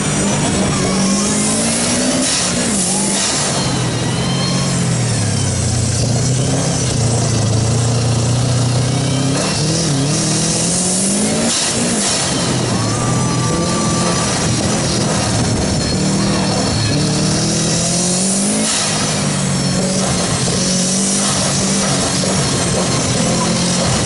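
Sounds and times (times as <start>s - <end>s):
car engine revving: 0.0s - 24.0s
road and wind noise: 0.0s - 24.0s.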